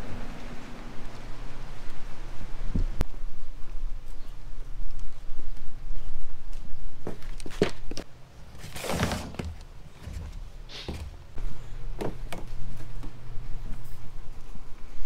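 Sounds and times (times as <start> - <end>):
low steady hum: 0.0 - 8.7, 9.4 - 15.0.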